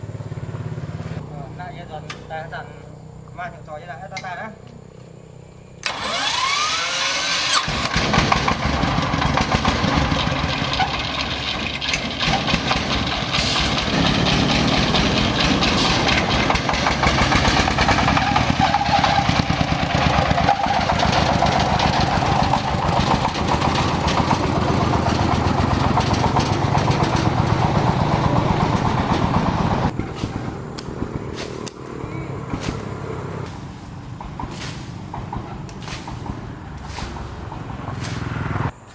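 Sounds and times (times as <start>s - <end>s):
tractor engine starting and running: 4.1s - 38.9s.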